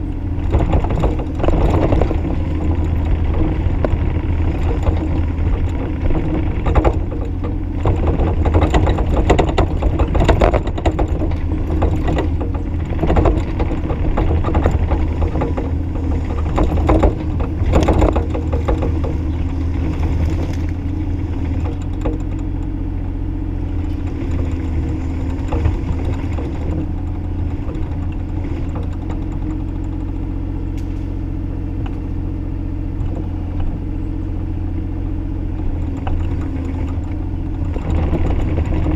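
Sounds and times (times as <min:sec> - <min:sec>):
clanks and knocks: 0:00.0 - 0:38.9
excavator diesel engine running: 0:00.0 - 0:38.9.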